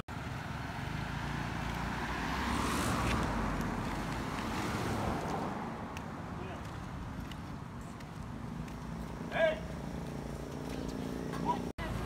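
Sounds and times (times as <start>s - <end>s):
rumble of passing vehicles: 0.1s - 12.0s.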